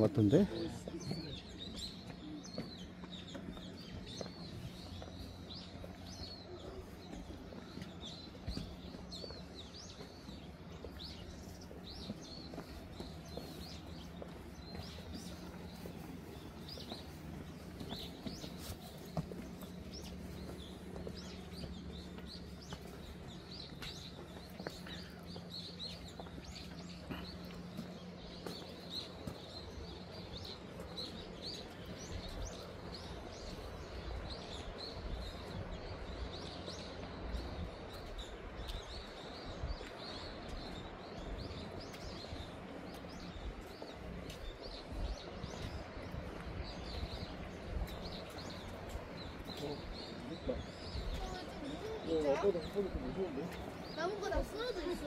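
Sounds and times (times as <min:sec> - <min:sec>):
small birds chirping: 0:00.0 - 0:55.0
steady outdoor hiss: 0:00.0 - 0:55.0.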